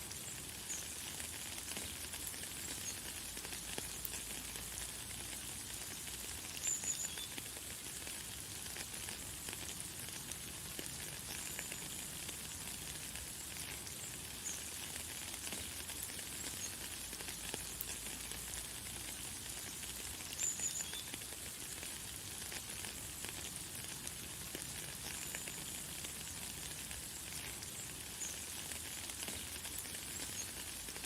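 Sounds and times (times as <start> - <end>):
light rain pattering: 0.0 - 31.0.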